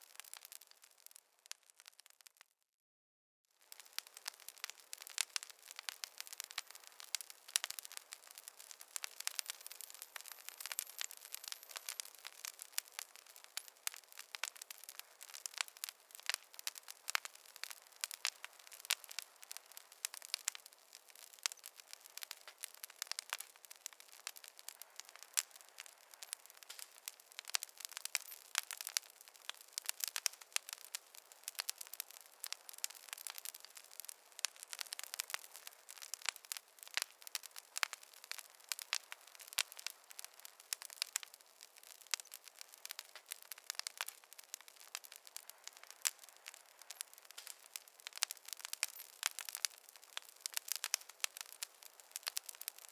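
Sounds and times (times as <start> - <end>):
campfire crackling and popping: 0.0 - 2.5, 3.6 - 52.9.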